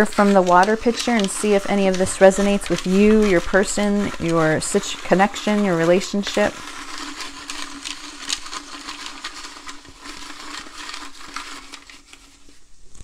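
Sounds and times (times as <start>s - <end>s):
small pieces rattling in a pitcher: 0.0s - 12.3s.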